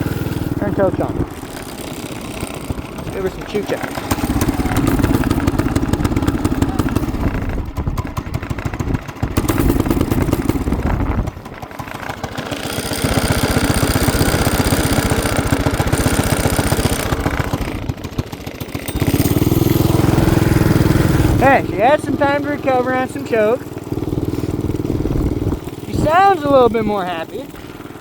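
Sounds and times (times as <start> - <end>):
small engine running rough: 0.0 - 28.0.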